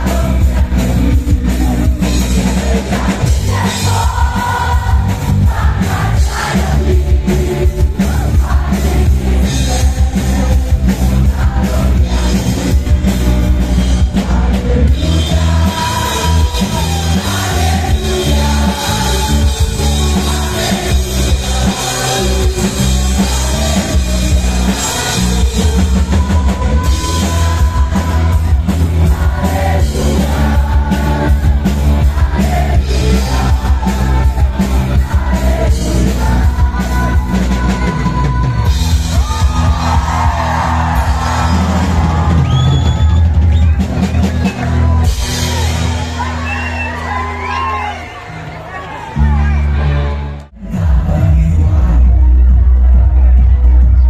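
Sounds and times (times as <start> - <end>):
crowd shouting: 0.0 - 10.5, 14.2 - 51.0
person singing: 0.0 - 42.4, 49.9 - 54.0
drum kit: 0.0 - 48.1
bass guitar: 0.0 - 54.0
rock band music: 0.0 - 54.0.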